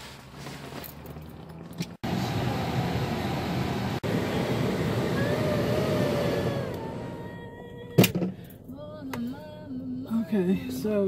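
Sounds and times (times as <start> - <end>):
car engine inside cabin: 0.0 - 11.0.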